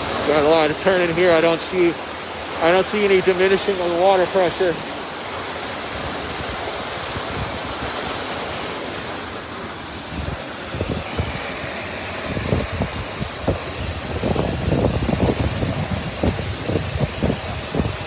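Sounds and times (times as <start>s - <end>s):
water gushing from hydrant: 0.0s - 18.0s.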